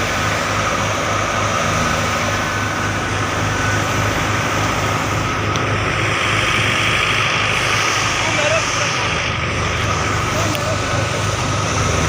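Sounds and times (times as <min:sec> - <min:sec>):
machinery engine running: 0:00.0 - 0:12.0.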